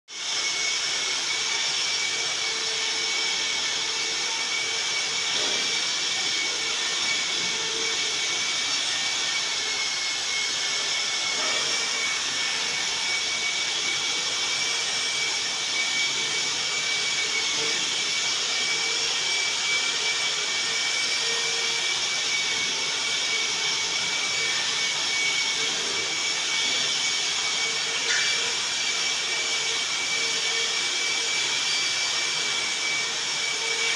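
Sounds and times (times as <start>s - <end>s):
wall sander motor whine: 0.1s - 33.9s.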